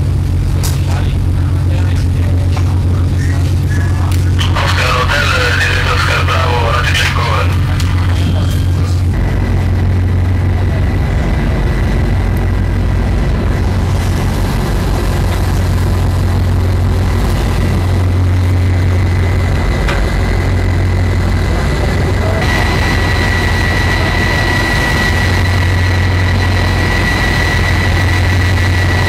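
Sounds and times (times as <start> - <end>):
ship machinery droning: 0.0 - 29.0
thin high whine: 2.9 - 29.0.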